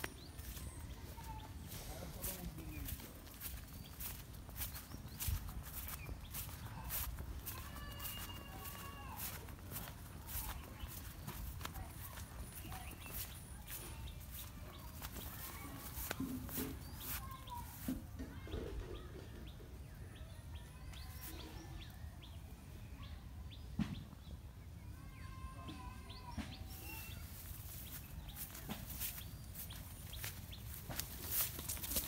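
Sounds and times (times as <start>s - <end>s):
birds chirping and calling: 0.0s - 20.3s, 25.6s - 32.0s.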